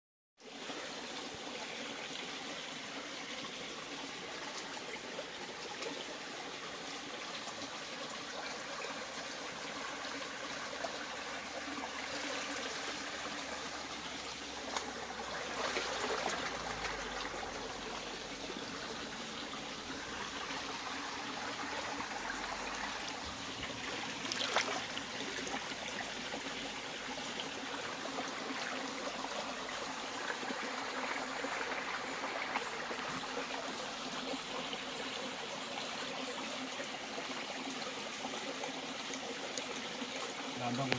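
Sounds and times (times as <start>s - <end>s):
stream flowing: 0.4s - 40.9s.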